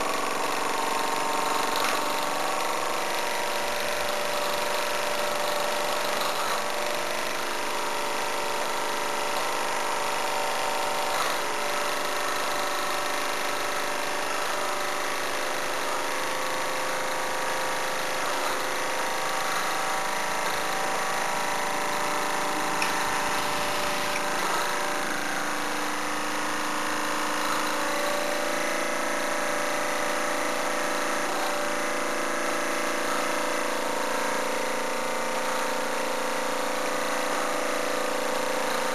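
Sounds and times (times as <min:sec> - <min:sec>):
toy steam engine running: 0:00.0 - 0:38.9.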